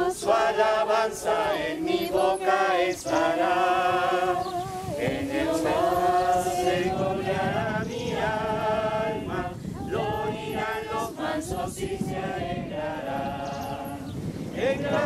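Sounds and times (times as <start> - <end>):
group singing a hymn: 0.0 - 15.0.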